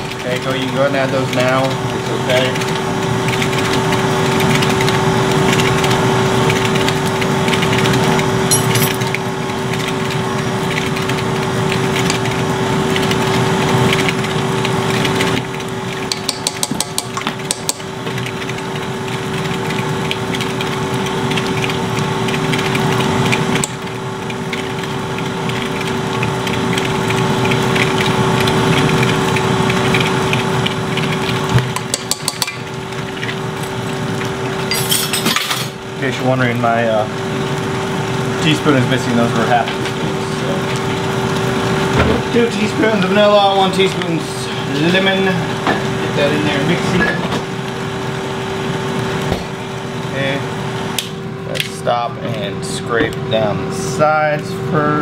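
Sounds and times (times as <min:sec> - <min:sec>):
stand mixer whisking: 0:00.0 - 0:55.0.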